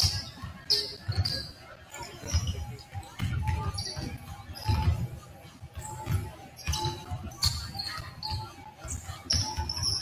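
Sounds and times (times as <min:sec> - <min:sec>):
sneaker squeaks: 0:00.0 - 0:10.0.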